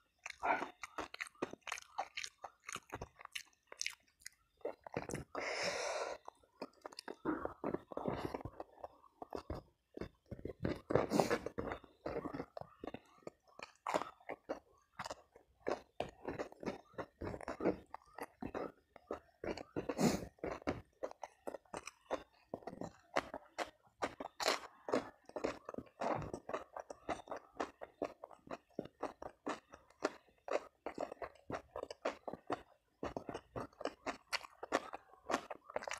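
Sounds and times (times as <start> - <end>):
person chewing: 0.0 - 35.9.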